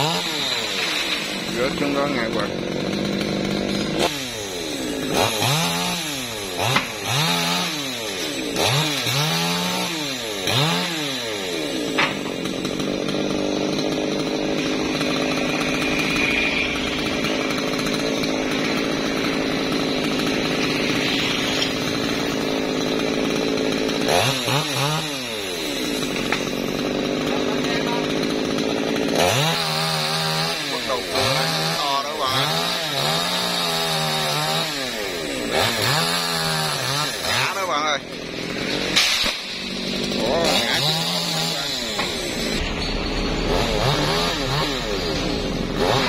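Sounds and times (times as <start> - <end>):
chainsaw revving: 0.0 - 46.0.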